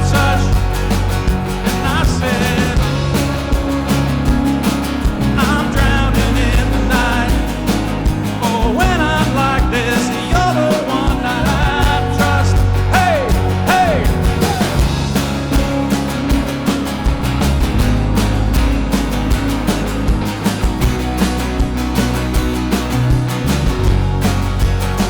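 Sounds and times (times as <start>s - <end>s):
drum hits: 0.0s - 25.0s
heavy bass: 0.0s - 25.0s
live rock band playing: 0.0s - 25.0s.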